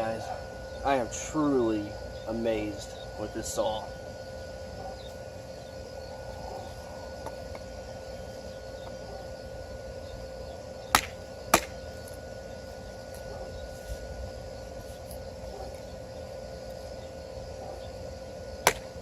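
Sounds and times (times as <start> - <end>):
constant high tone: 0.0 - 19.0.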